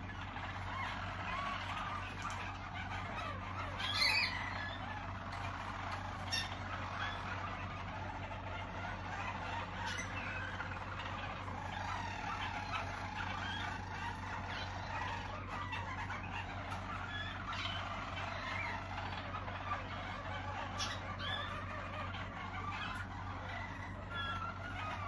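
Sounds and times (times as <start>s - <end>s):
canaries trilling: 0.0s - 25.0s
low steady hum: 0.0s - 25.0s.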